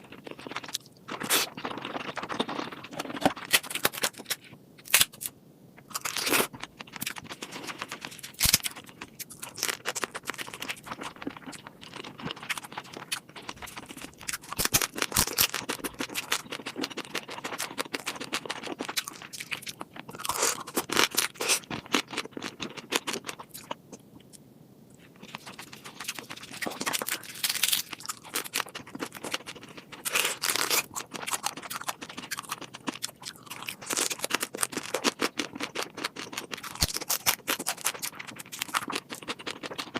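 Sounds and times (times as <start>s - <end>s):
seafood crunching and chewing: 0.0s - 24.4s, 25.0s - 39.9s.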